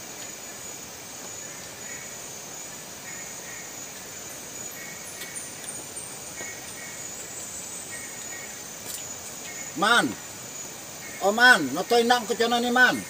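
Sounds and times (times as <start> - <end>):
insects trilling: 0.0 - 13.0
low insect chirps: 0.0 - 13.0.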